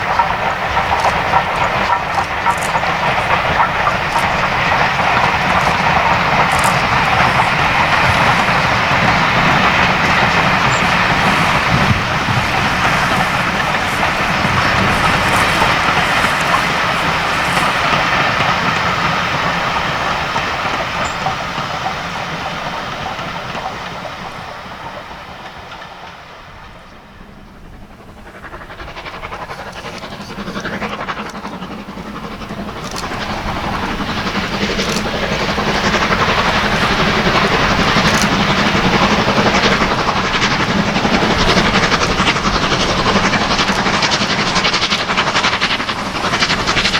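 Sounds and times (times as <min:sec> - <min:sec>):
steam hissing: 0:00.0 - 0:26.5, 0:27.1 - 0:46.9
train wheels clattering: 0:00.0 - 0:46.9.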